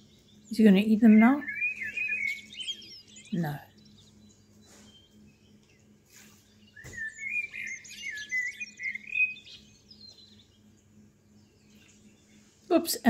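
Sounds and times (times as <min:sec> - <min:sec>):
bird chirping: 0:00.0 - 0:13.0
faint low hum: 0:00.0 - 0:13.0.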